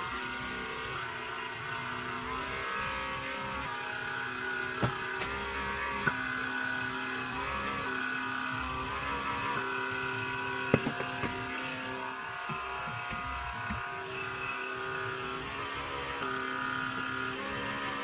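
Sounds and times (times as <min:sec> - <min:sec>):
small motor humming: 0:00.0 - 0:18.0.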